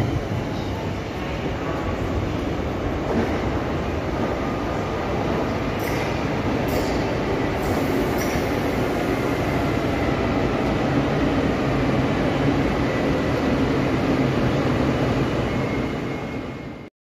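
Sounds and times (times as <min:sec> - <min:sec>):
electric train rumbling: 0:00.0 - 0:16.9.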